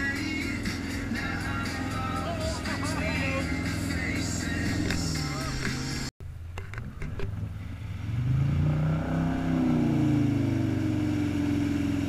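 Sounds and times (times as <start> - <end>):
boat engine accelerating: 0.0 - 12.0.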